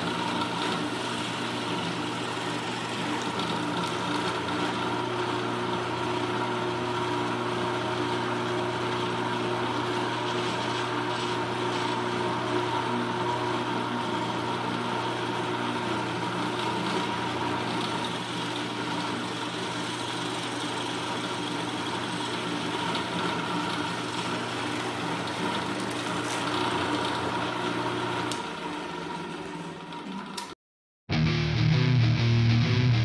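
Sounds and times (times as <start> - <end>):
drill press motor humming: 0.0 - 30.6.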